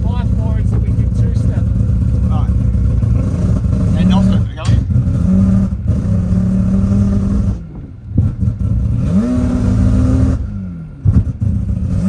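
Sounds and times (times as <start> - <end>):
engine backfire cracks: 0.0 - 10.4, 11.0 - 12.0
rotary engine revving: 0.0 - 12.0.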